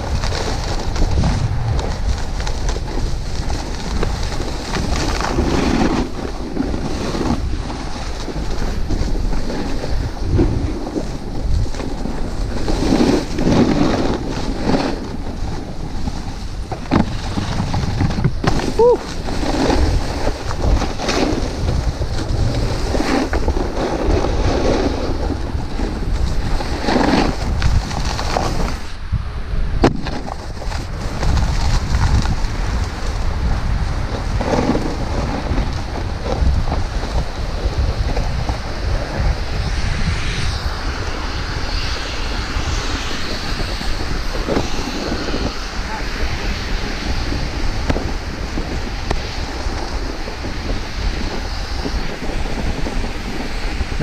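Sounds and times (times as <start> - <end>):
snowboard scraping on icy snow: 0.0 - 29.0, 29.9 - 54.0
wind on microphone: 0.0 - 54.0.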